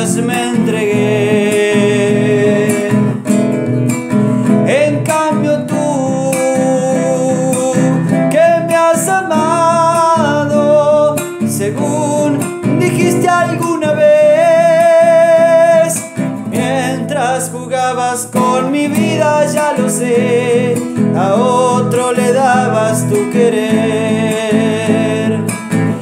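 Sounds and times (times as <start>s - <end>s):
man singing: 0.0s - 26.0s
strummed acoustic guitar: 0.0s - 26.0s.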